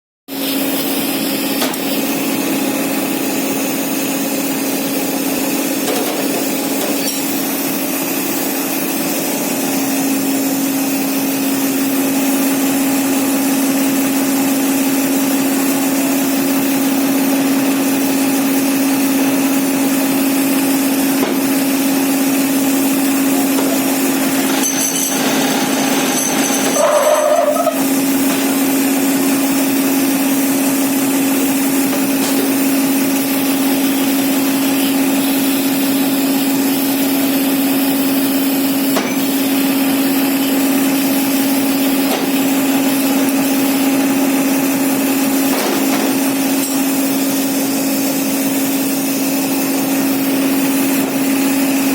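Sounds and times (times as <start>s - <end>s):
casting machine whirring: 0.4s - 51.9s.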